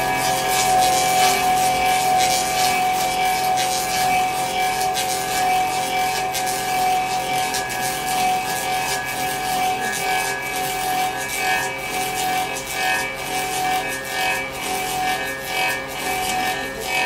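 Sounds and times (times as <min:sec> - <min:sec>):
cutter shaving wood: 0:00.0 - 0:17.0
lathe motor whine: 0:00.0 - 0:17.0.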